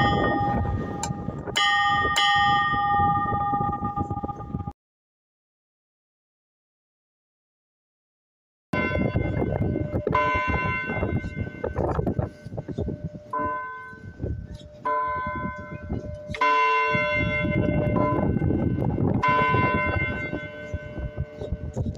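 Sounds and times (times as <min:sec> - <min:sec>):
church bells ringing: 0:00.0 - 0:04.7, 0:08.8 - 0:21.9
low rumbling noise: 0:00.0 - 0:04.7, 0:08.8 - 0:21.9.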